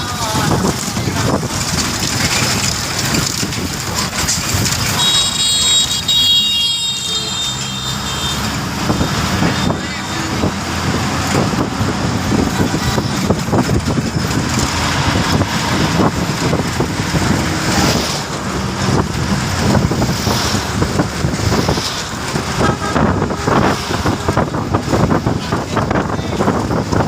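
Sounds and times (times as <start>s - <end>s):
wind buffeting microphone: 0.0s - 5.0s, 8.6s - 27.0s
road traffic noise: 0.0s - 27.0s.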